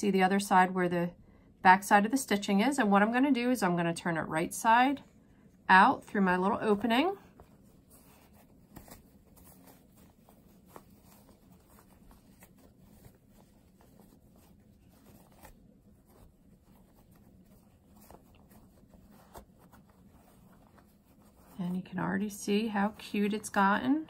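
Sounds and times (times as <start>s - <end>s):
fabric rustling and scratching: 2.7s - 24.0s.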